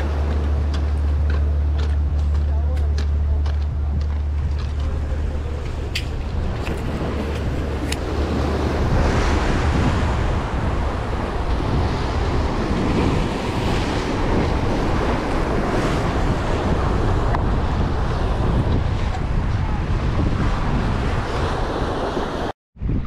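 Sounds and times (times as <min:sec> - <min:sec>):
ocean surf breaking on rocks: 0:00.0 - 0:22.5
wind buffeting microphone: 0:00.0 - 0:23.0.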